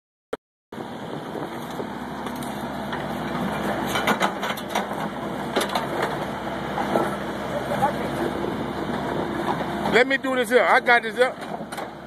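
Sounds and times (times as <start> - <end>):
excavator engine running: 0.7 - 12.0.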